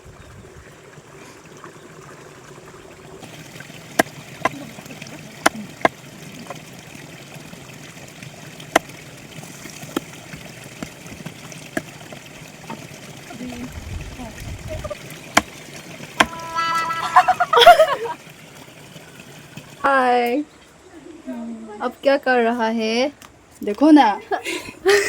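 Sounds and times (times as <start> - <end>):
stream water trickling: 0.0 - 20.9.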